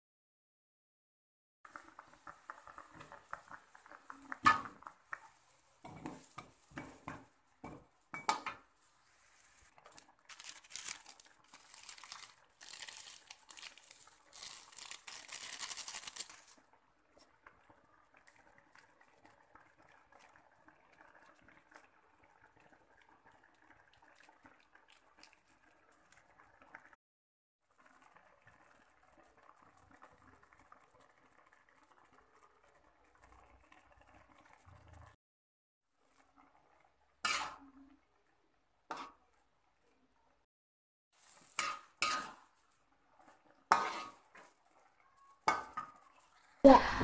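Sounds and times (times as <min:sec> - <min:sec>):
noodles bubbling and crackling: 0:01.6 - 0:27.0, 0:27.6 - 0:35.2, 0:35.9 - 0:40.5, 0:41.1 - 0:47.0.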